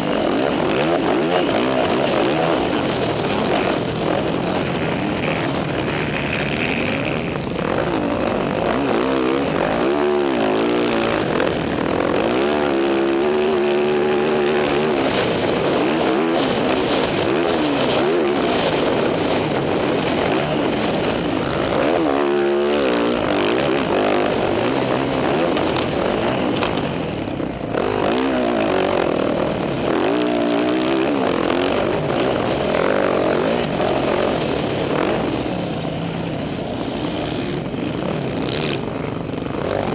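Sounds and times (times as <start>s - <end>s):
constant rushing noise: 0.0s - 39.9s
dirt bike engine revving: 0.0s - 39.9s.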